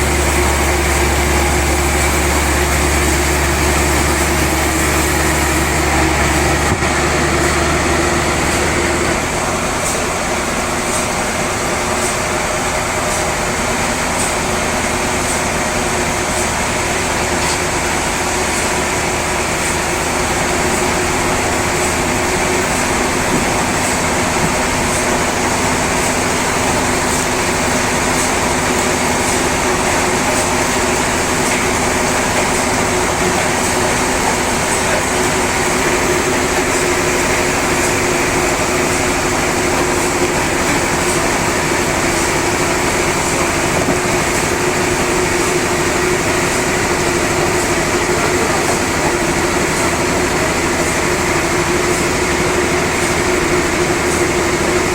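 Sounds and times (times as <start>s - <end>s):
saw cutting log: 0.0s - 54.9s.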